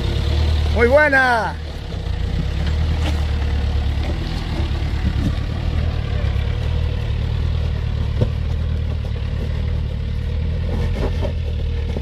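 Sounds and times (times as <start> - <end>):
engine running at low revs: 0.0 - 12.0.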